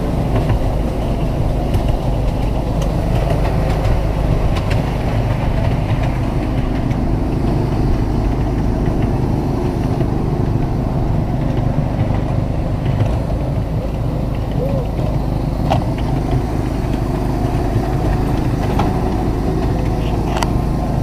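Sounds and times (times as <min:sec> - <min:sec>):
small locomotive engine running: 0:00.0 - 0:21.0
train cars rolling over rails: 0:00.0 - 0:21.0.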